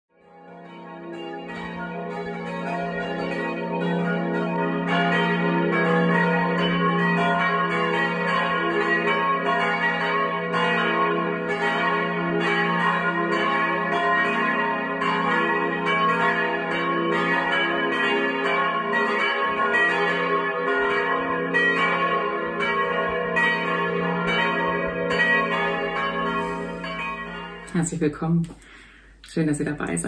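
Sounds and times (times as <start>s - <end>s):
church bells pealing: 0.2s - 28.2s.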